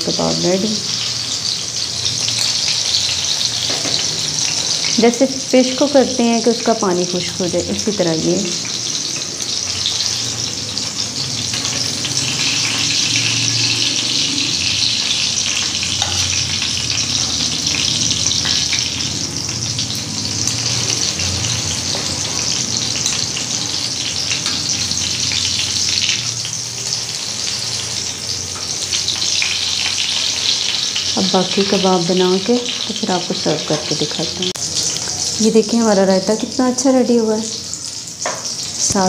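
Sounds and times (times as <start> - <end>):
kababs sizzling in oil: 0.0 - 39.0.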